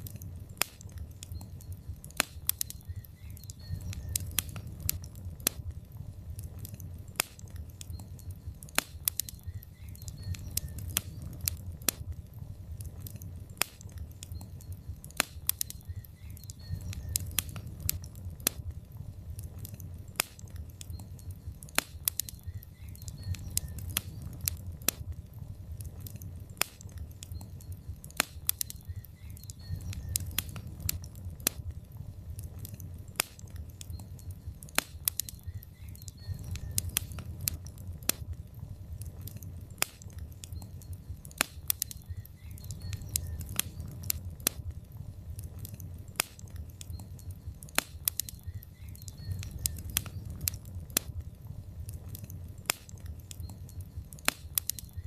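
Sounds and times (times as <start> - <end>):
logs crackling and snapping: 0.0 - 55.0
low rumble of fire: 0.0 - 55.0.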